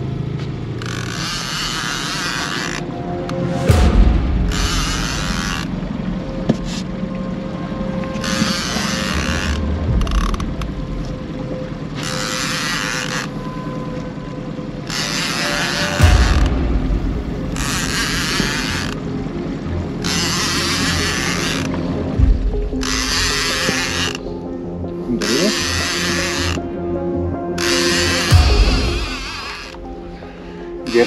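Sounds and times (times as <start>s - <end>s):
fishing reel whirring: 0.7s - 3.8s, 4.5s - 6.9s, 8.0s - 16.6s, 17.3s - 26.8s, 27.5s - 31.0s.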